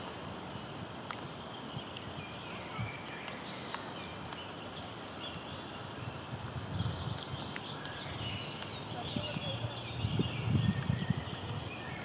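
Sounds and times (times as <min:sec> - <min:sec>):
small birds chirping: 0:00.0 - 0:12.0
steady outdoor hiss: 0:00.0 - 0:12.0.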